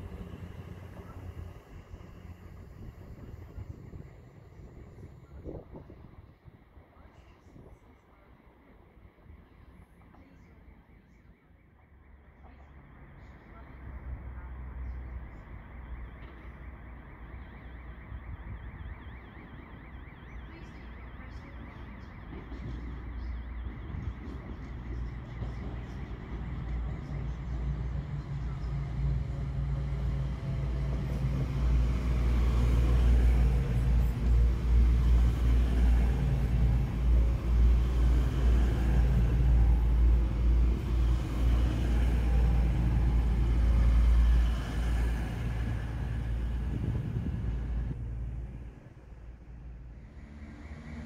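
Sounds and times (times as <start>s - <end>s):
diesel train engine rumble: 0.0s - 51.0s.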